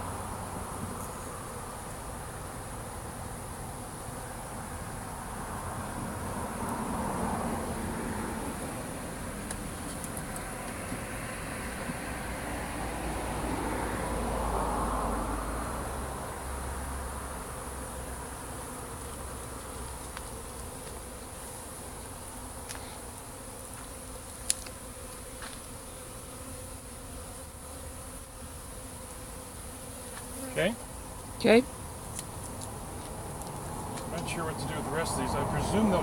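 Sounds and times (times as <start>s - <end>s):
bee swarm buzzing: 0.0s - 36.0s.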